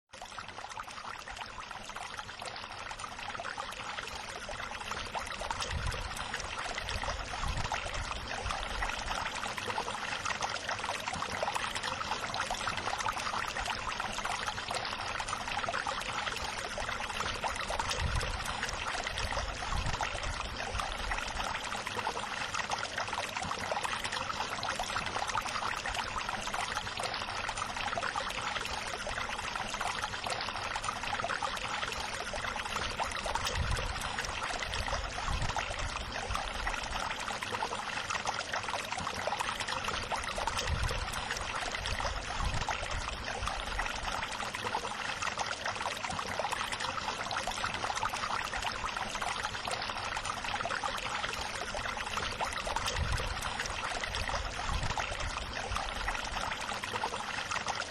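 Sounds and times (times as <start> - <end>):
running water: 0.1 - 57.9.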